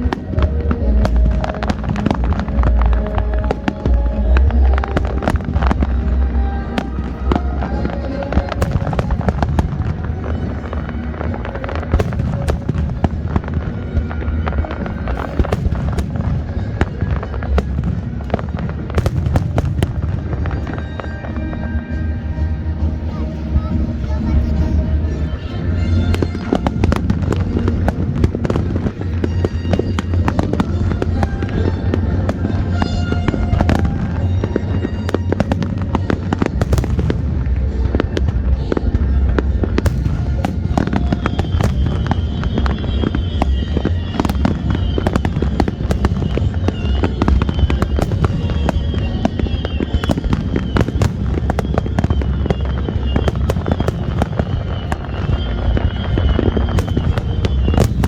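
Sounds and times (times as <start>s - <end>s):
firework bursts and crackles: 0.0s - 58.0s
music playing: 0.0s - 58.0s.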